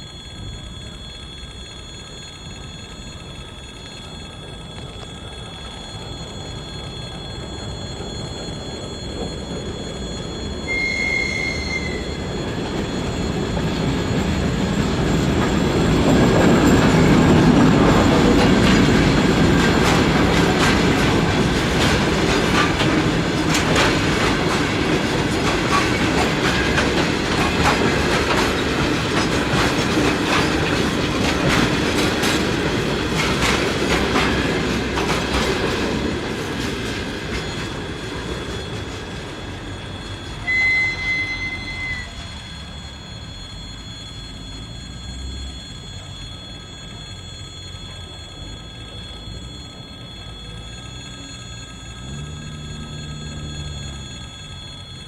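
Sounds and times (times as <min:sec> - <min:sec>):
diesel locomotive rumble: 0:00.0 - 0:55.0
high wheel squeal: 0:00.0 - 0:55.0
wheels clicking over rail joints: 0:00.0 - 0:55.0.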